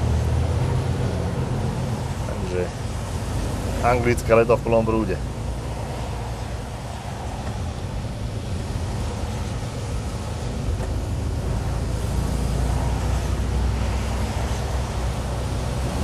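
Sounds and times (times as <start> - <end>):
diesel engine rumbling: 0.0 - 16.0
tyres hissing on wet road: 0.0 - 16.0.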